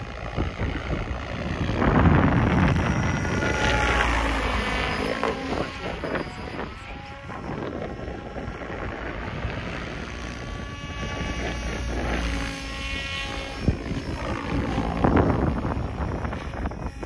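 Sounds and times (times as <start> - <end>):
rc helicopter rotors whining: 0.0 - 17.0
wind hitting microphone: 0.0 - 17.0.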